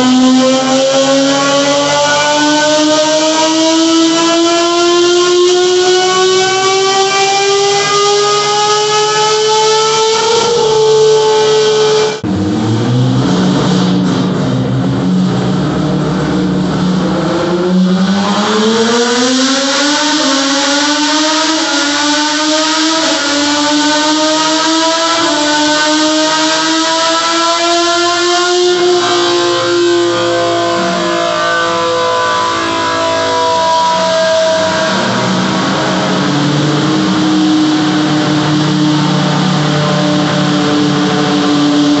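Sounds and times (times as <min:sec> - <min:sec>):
race car engine revving: 0:00.0 - 0:42.0.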